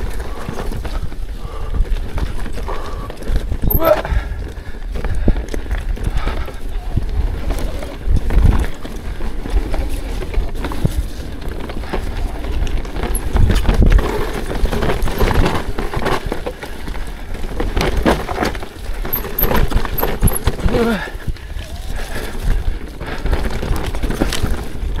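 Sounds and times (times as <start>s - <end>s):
bike rattling over rocks: 0.0s - 25.0s
low wind rumble on microphone: 0.0s - 25.0s.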